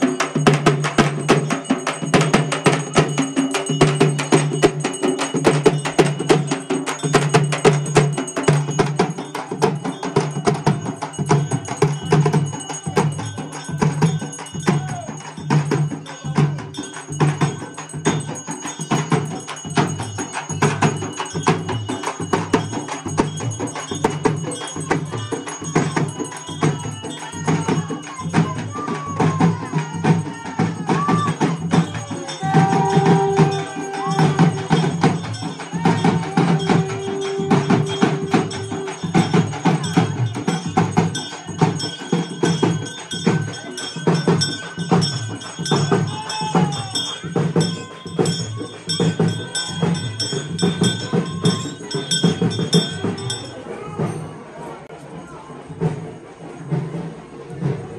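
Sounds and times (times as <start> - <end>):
frame drums beaten with sticks: 0.0 - 57.9.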